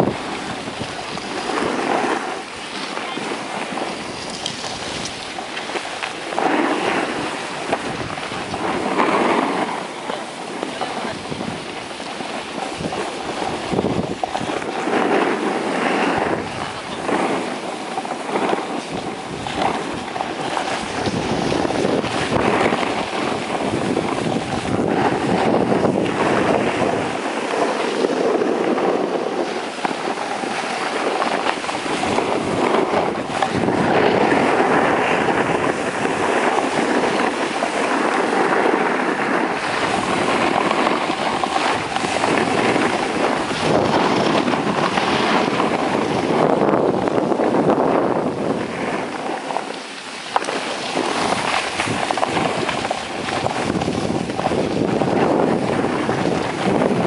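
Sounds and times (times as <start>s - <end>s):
skis scraping over snow: 0.0s - 57.0s
wind rushing over microphone: 0.0s - 57.0s.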